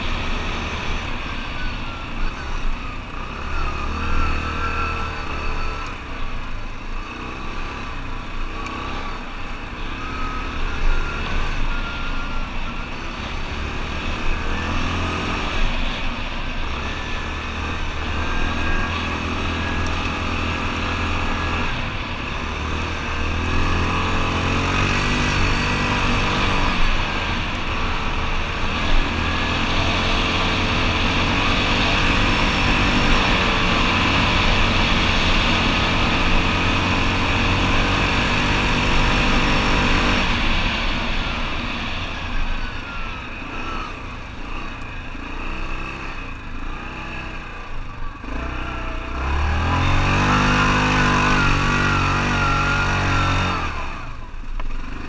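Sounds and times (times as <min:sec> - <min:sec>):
atv engine running and revving: 0:00.0 - 0:55.0.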